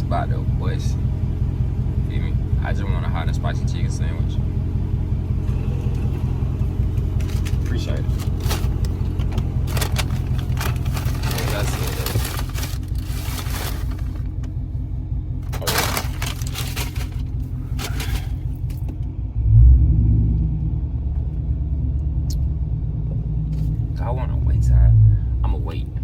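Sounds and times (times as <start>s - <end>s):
car engine from inside cabin: 0.0s - 26.0s.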